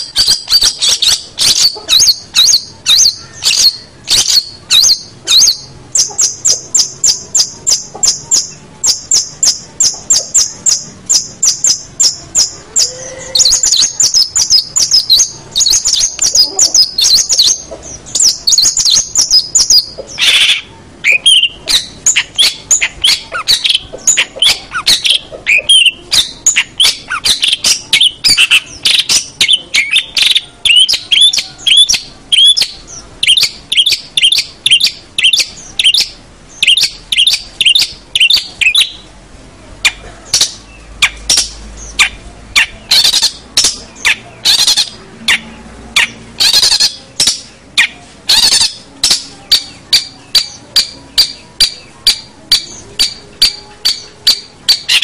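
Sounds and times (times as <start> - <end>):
shrike singing chattering song: 0.0 - 55.0.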